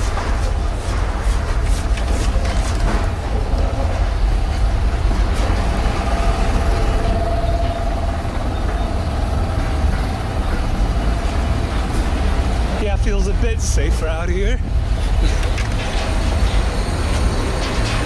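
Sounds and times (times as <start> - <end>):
outdoor urban rumble: 0.0 - 18.0.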